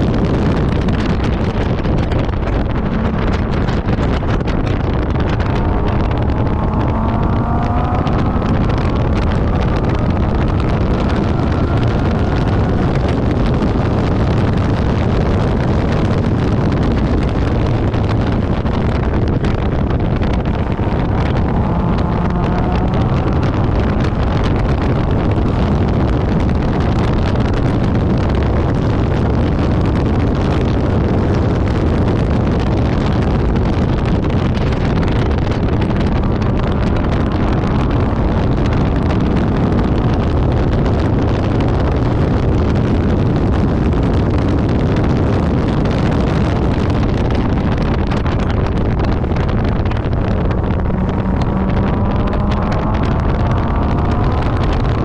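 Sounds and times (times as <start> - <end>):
car engine revving hard: 0.0 - 55.0
road noise: 0.0 - 55.0
wind noise on microphone: 0.0 - 55.0.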